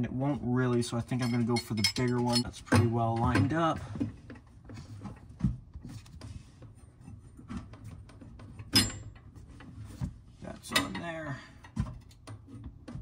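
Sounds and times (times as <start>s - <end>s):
pipe fittings knocking and rubbing: 0.6s - 13.0s.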